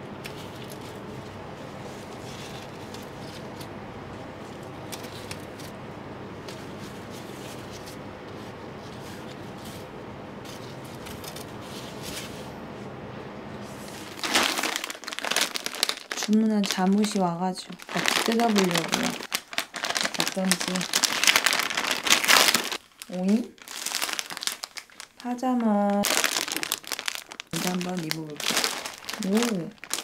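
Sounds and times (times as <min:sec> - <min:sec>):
low kitchen hum: 0:00.0 - 0:30.0.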